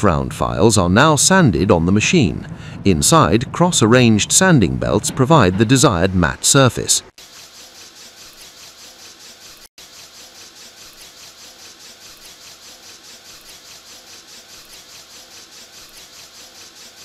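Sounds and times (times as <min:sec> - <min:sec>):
belt sanding machine hissing: 0:02.0 - 0:17.0.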